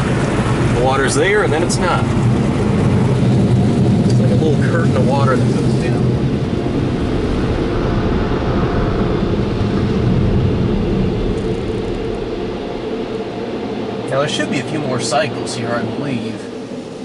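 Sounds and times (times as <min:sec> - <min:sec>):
car wash blowers and spray roar: 0:00.0 - 0:17.0.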